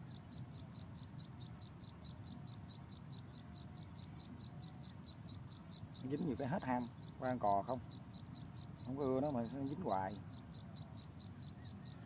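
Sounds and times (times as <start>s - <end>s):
high-pitched chirping pulses: 0.0s - 12.0s.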